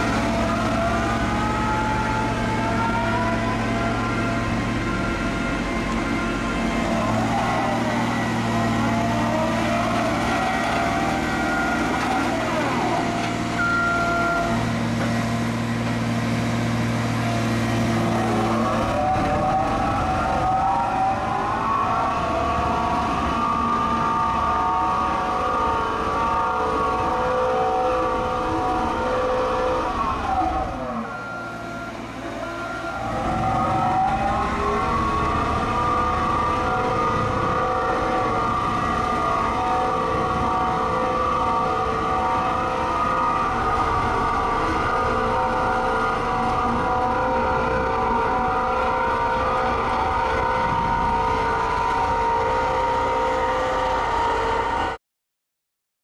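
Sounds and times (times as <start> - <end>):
diesel engine running with whine: 0.0 - 55.0.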